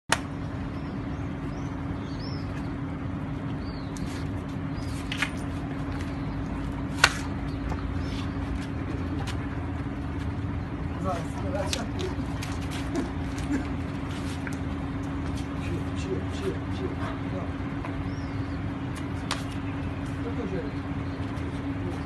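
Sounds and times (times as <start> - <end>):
low mechanical hum: 0.1 - 22.0.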